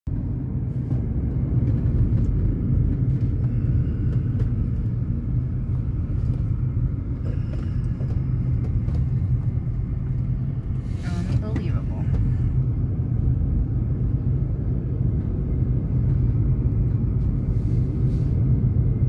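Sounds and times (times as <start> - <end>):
engine and tyre rumble in car: 0.1 - 19.0.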